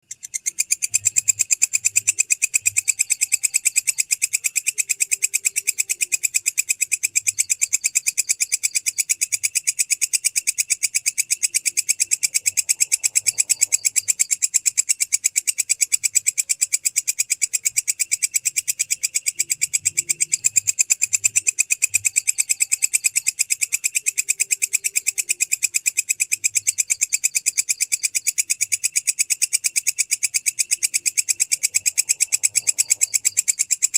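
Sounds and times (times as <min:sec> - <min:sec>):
grasshopper stridulating: 0:00.0 - 0:33.9.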